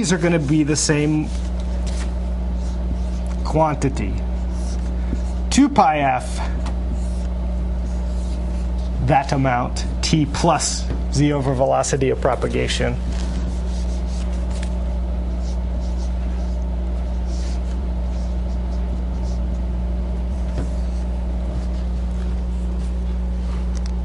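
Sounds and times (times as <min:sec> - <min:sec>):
marker scratching on whiteboard: 0:00.0 - 0:06.0, 0:06.9 - 0:09.4, 0:10.6 - 0:23.6
steady low hum: 0:00.0 - 0:24.0.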